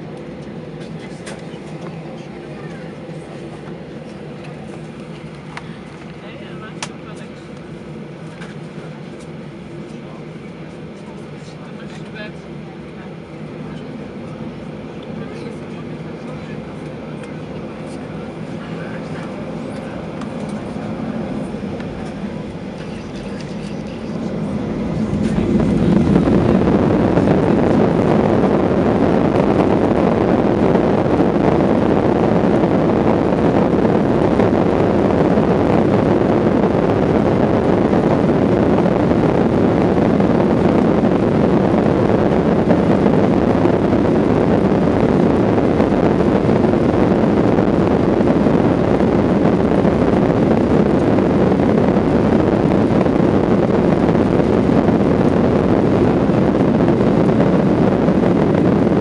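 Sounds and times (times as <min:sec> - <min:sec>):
jet engines at takeoff: 0:00.0 - 0:59.0.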